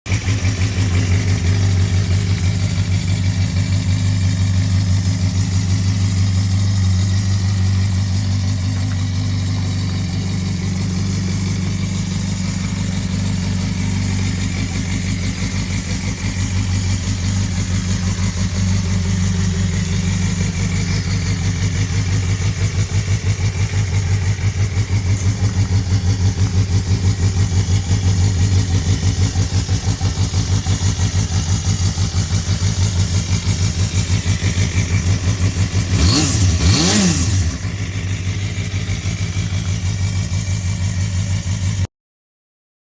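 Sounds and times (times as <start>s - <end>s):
motorcycle engine idling: 0.1s - 41.9s.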